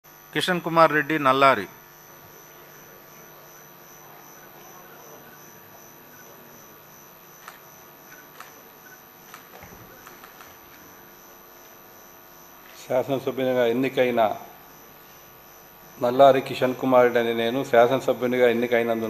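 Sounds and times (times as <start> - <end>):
mains hum: 0.0 - 19.0.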